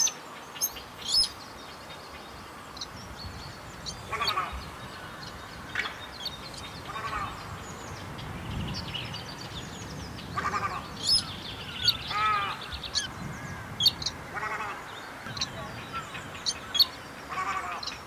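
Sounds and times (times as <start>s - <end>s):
harsh nasal bird calls: 0.0s - 18.0s.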